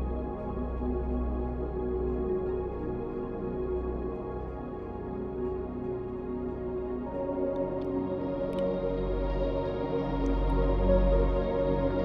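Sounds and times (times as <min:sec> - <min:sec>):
ambient music with held tones: 0:00.0 - 0:12.0
deep bass: 0:00.0 - 0:12.0.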